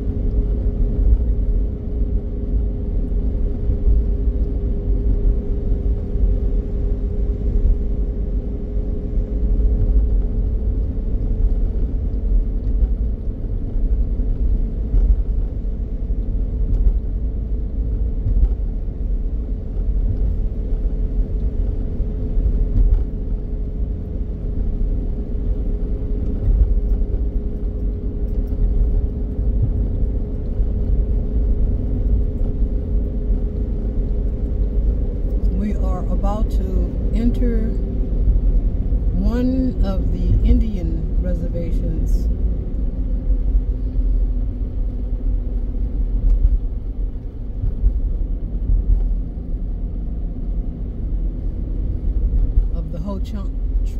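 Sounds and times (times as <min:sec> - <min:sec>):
car road noise from inside: 0:00.0 - 0:53.9.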